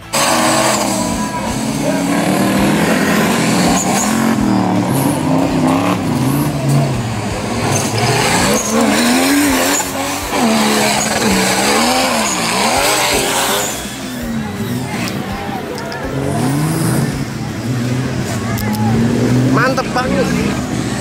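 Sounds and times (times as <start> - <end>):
buggy engine revving hard: 0.0 - 21.0.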